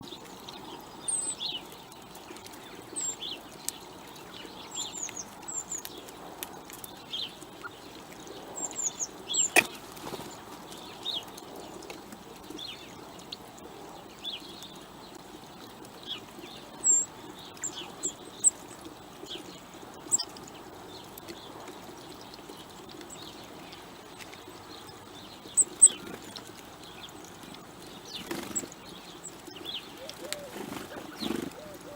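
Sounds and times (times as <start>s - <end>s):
faint outdoor background noise: 0.0s - 31.9s
songbirds chirping: 0.0s - 31.9s.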